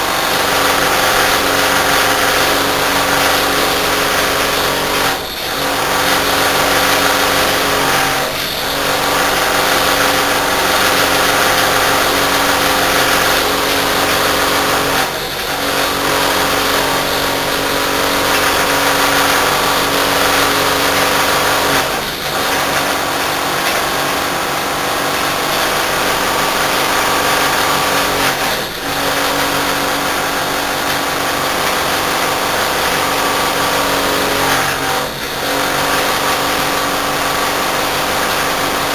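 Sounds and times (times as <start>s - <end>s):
compressor humming and rattling: 0.0s - 38.9s.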